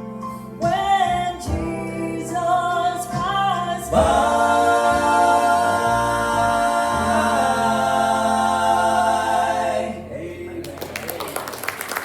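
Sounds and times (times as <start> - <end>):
vocal trio singing in harmony: 0.0 - 11.0.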